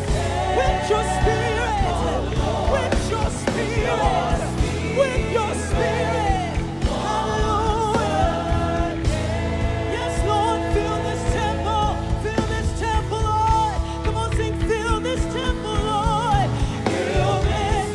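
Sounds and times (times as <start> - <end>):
choir singing with vibrato: 0.0 - 13.9, 16.2 - 17.9
bass: 0.0 - 17.9
keyboard chords: 0.0 - 17.9
steady drum beat: 0.0 - 17.9.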